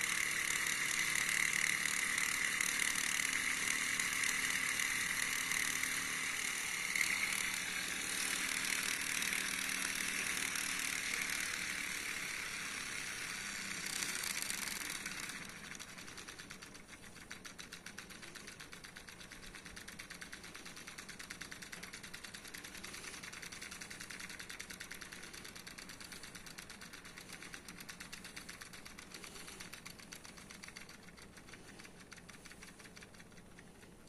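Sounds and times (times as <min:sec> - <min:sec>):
model engine running: 0:00.0 - 0:34.0.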